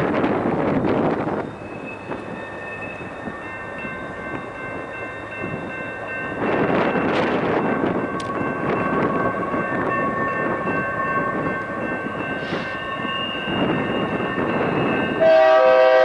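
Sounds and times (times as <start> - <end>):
freight train rolling past: 0.0 - 16.0
wind buffeting microphone: 0.0 - 16.0.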